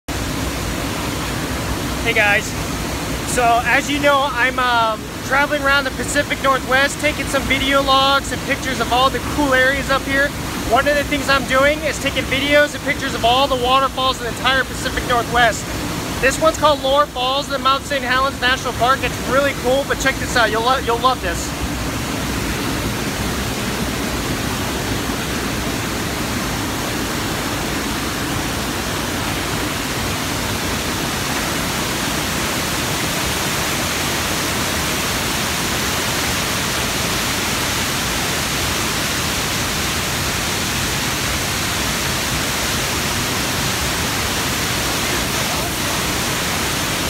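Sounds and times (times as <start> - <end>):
waterfall rushing: 0.1 - 47.0.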